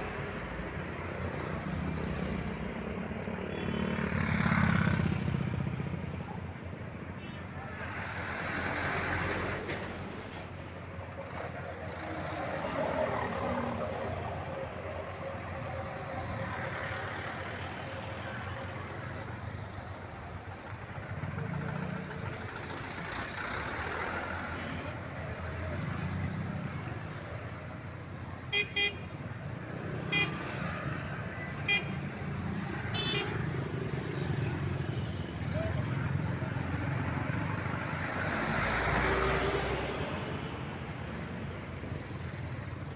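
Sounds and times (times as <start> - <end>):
road traffic passing: 0.0 - 42.9.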